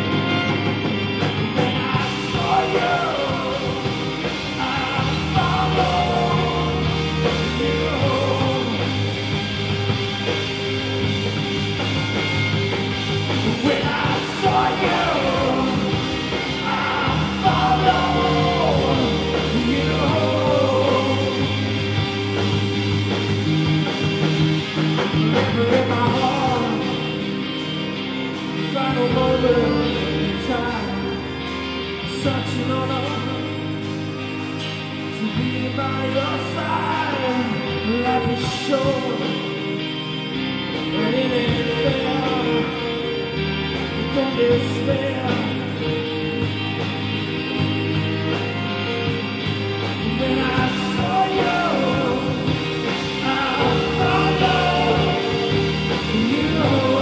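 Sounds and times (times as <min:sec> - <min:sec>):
drums: 0:00.0 - 0:57.0
electric bass: 0:00.0 - 0:57.0
electric guitars: 0:00.0 - 0:57.0.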